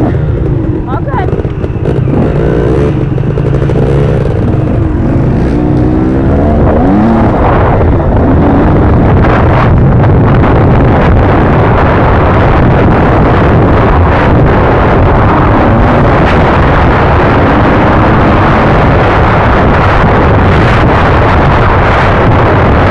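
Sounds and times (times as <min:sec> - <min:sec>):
dirt bike engine: 0:00.0 - 0:22.9
wind buffeting microphone: 0:00.0 - 0:22.9.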